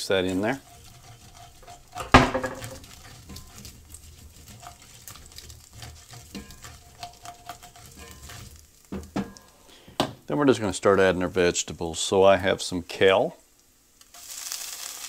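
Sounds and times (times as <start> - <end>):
utensil scraping in a skillet: 0.0 - 12.6, 14.0 - 15.0.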